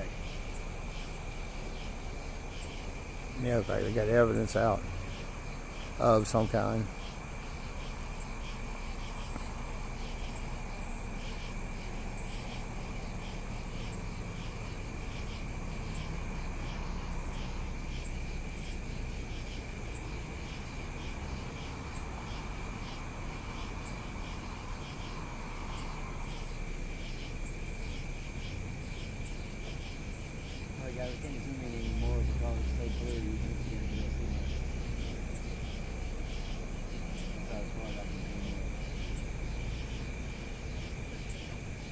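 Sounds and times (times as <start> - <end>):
insects trilling: 0.0 - 41.9
low steady rumble: 0.0 - 41.9.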